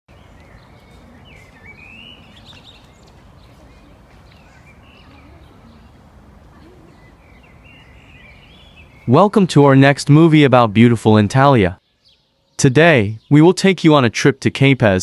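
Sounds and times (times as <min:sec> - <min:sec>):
small birds chirping: 0:00.1 - 0:09.5, 0:11.3 - 0:14.6.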